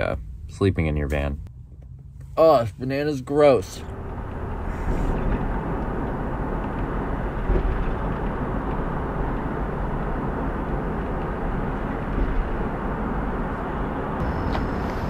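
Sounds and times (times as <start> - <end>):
van road and wind noise: 0.0 - 15.0.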